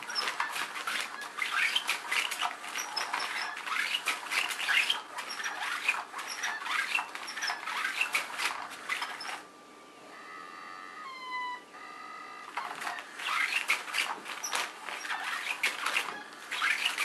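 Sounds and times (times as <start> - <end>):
toy wand scratching under cover: 0.0 - 9.4, 12.6 - 17.0.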